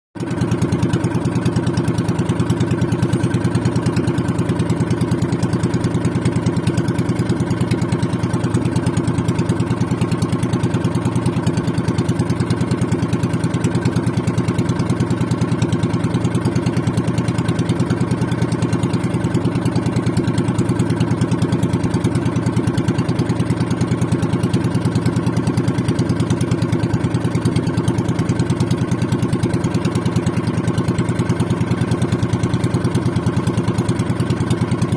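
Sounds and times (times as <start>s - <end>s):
boat engine chugging: 0.2s - 34.9s.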